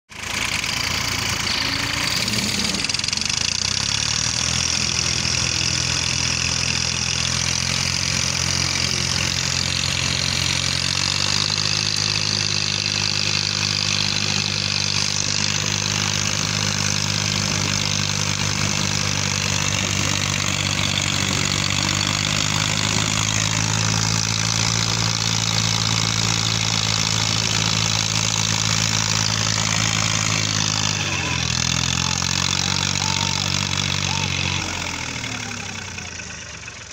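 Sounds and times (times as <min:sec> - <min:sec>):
tractor diesel engine under load: 0:00.1 - 0:36.9.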